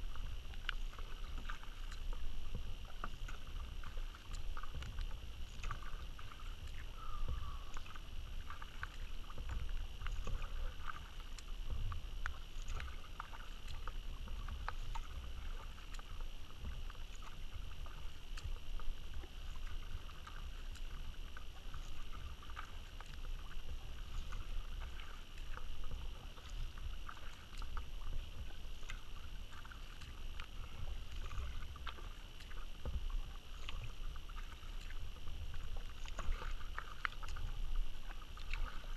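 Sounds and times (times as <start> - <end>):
paddle splashes and drips: 0.0 - 38.9.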